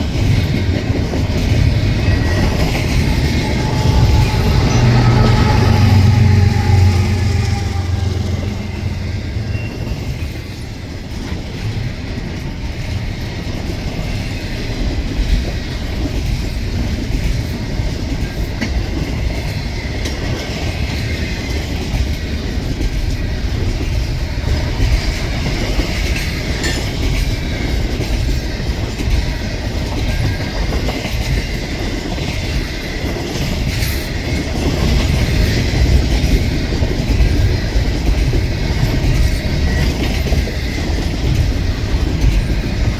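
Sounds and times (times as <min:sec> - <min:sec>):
freight train wheels on rail: 0:00.0 - 0:42.9
wheels clacking over rail joints: 0:00.0 - 0:42.9.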